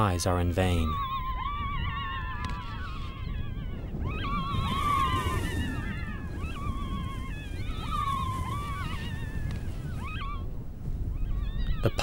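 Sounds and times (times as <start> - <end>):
jackal pups whining: 0.9 - 12.0.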